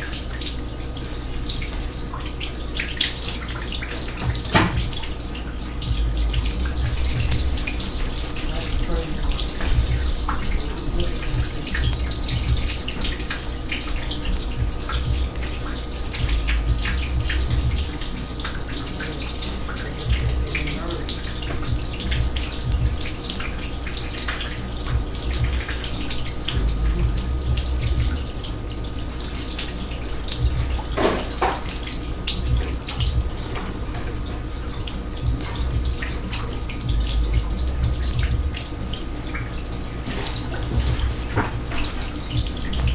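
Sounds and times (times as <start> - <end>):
water dripping: 0.0 - 42.9
water running and splashing in sink: 0.0 - 42.9.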